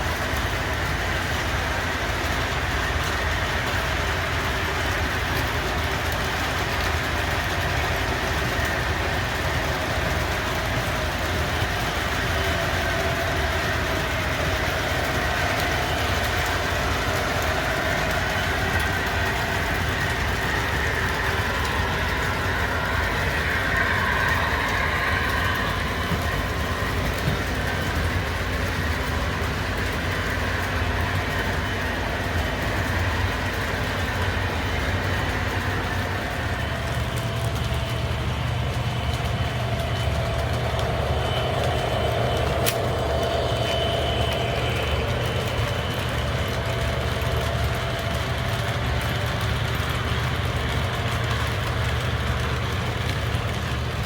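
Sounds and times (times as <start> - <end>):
model train diesel engine sound: 0.0 - 54.0
wheels rolling on track: 0.0 - 54.0.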